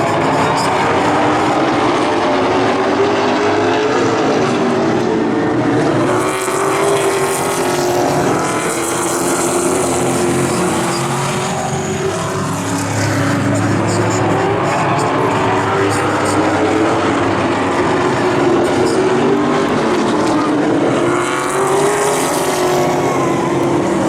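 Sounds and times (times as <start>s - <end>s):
race car engines at high revs: 0.0s - 24.0s.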